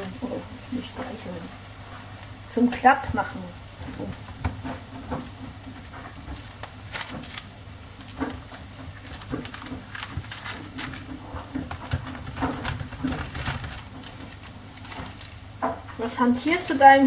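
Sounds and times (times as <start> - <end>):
baking paper rustling: 2.9 - 17.0
hands patting dough: 3.0 - 17.0.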